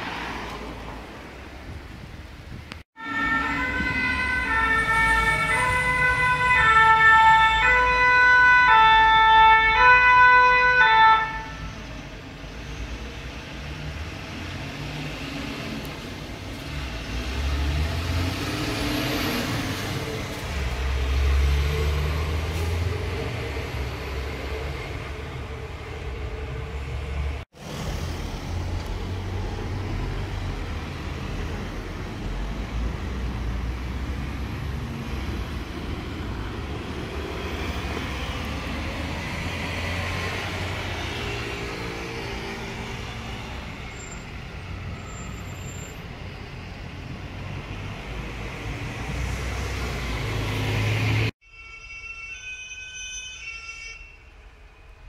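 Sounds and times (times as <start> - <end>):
road traffic noise: 0.0 - 55.0
fire engine diesel engine passing: 3.0 - 51.3.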